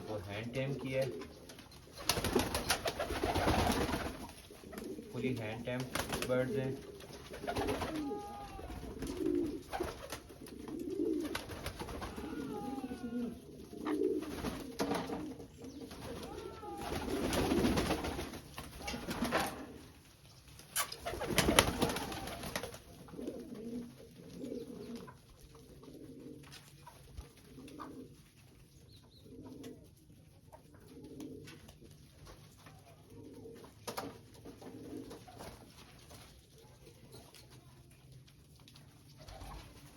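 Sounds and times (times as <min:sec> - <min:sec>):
pigeon cooing: 0:00.0 - 0:20.0, 0:20.7 - 0:35.9, 0:39.0 - 0:39.9.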